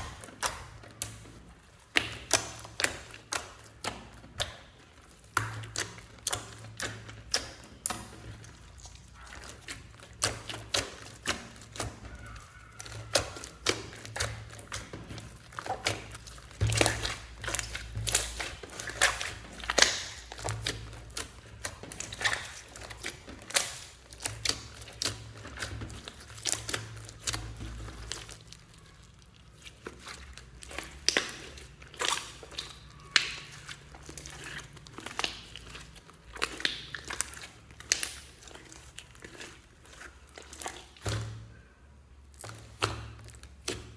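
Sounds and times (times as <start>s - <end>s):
slime squeezed by hand: 5.0s - 41.6s.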